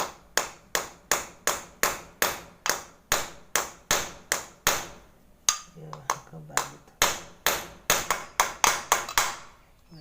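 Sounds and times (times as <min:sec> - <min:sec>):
hammer striking metal rivets: 0:00.0 - 0:05.7, 0:06.6 - 0:09.5.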